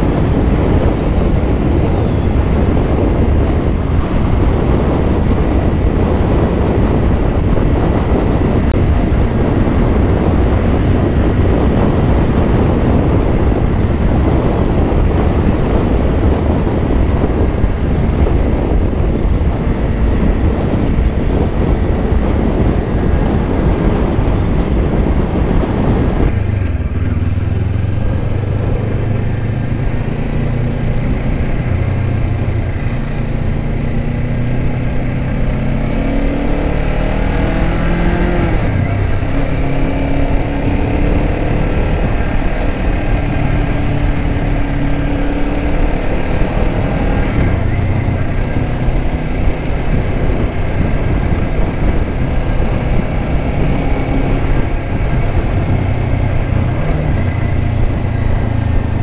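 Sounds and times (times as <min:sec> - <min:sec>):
motorcycle engine accelerating: 0:00.0 - 0:59.0
wind rush on microphone: 0:00.0 - 0:59.0.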